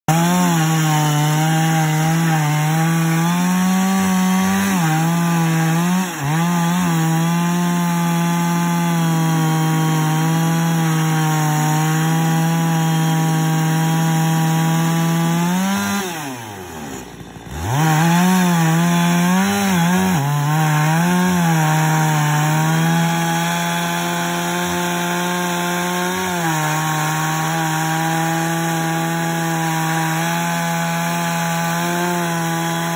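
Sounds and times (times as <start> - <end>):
chainsaw cutting log: 0.0 - 32.9.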